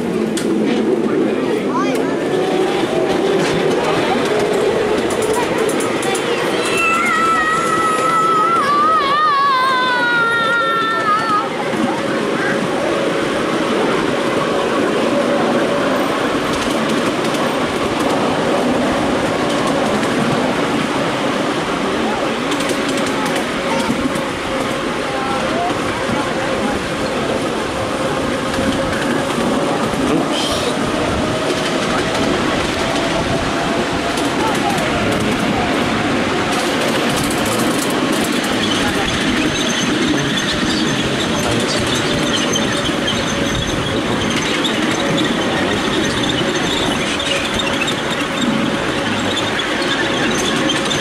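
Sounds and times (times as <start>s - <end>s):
miniature train wheels on rails: 0.0s - 51.0s.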